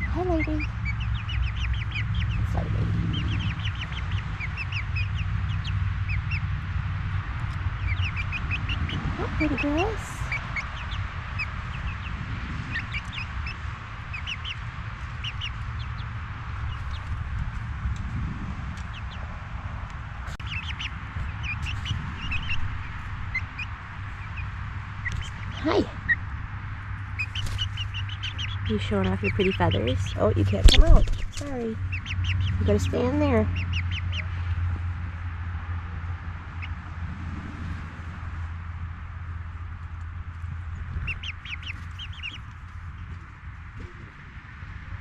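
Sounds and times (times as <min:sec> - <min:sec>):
chicks peeping: 0:00.0 - 0:19.3, 0:20.2 - 0:37.0, 0:39.8 - 0:44.3
low rumble: 0:00.0 - 0:45.0.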